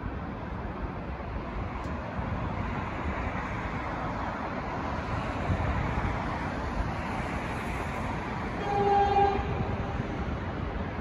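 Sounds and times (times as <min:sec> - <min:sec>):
city road traffic rumble: 0:00.0 - 0:11.0
wind buffeting microphone: 0:00.0 - 0:11.0.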